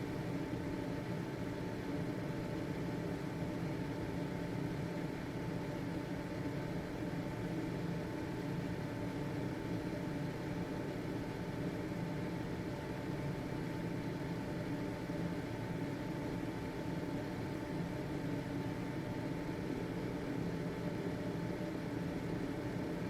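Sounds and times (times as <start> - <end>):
faint steady whine: 0.0 - 23.0
ventilation fan humming: 0.0 - 23.0.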